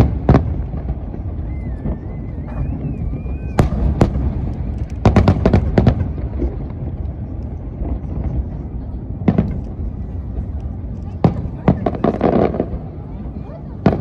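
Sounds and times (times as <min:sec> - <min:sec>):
fireworks bangs: 0:00.0 - 0:14.0
fireworks crackling: 0:00.0 - 0:14.0
low rumble of fireworks display: 0:00.0 - 0:14.0.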